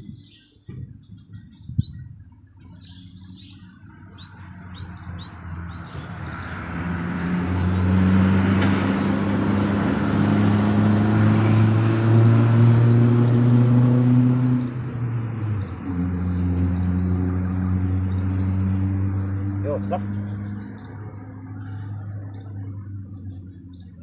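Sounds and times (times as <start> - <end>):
birds chirping: 0.0 - 11.0, 13.6 - 24.0
vehicle engine drone and tyre noise: 0.0 - 24.0.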